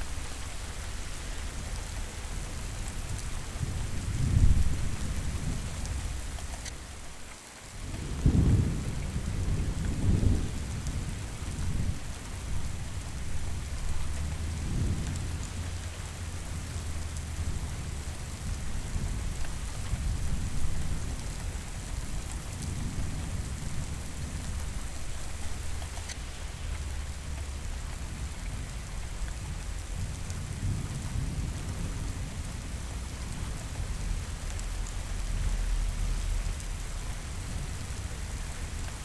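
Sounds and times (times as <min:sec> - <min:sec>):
low rolling thunder rumbles: 0:00.0 - 0:06.4, 0:07.7 - 0:39.0
steady rain falling: 0:00.0 - 0:39.0.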